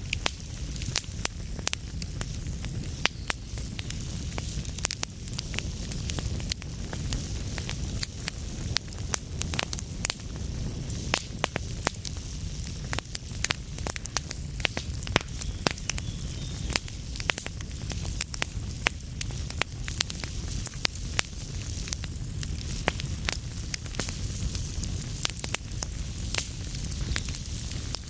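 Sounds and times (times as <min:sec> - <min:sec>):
low rumble of burning: 0:00.0 - 0:28.0
wood fire crackling: 0:00.0 - 0:28.0.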